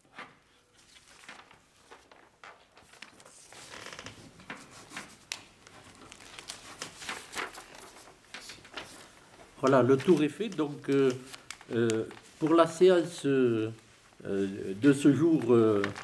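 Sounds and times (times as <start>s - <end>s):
paper rustling: 0.1s - 16.0s.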